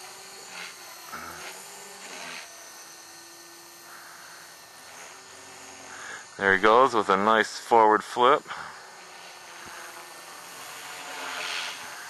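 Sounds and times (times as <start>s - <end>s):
distant model helicopter whine: 0.0s - 12.0s.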